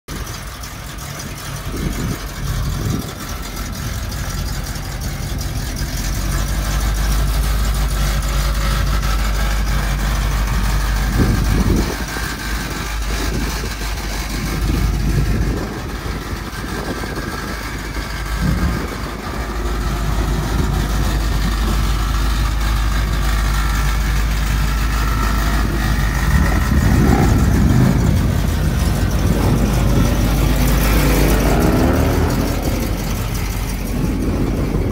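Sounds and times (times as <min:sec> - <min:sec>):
truck engine idling: 0:00.1 - 0:34.9.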